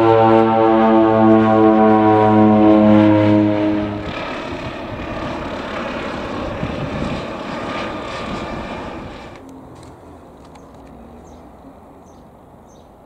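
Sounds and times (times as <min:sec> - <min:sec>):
low-flying aircraft engine rushing: 0:00.0 - 0:13.0.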